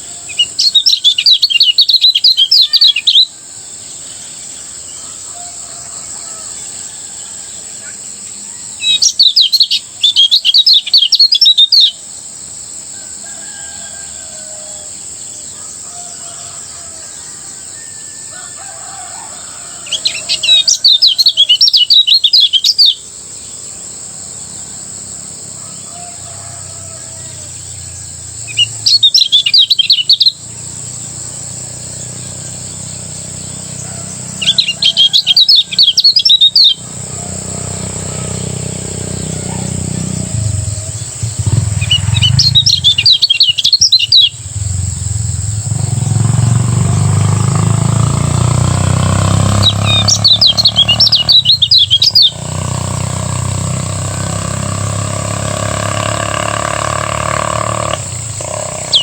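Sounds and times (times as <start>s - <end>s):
bird high twittering song: 0.0s - 59.0s.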